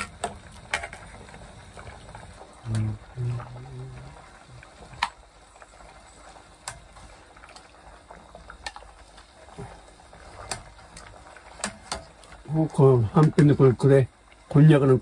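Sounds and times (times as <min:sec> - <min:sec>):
pot bubbling: 0:00.0 - 0:15.0.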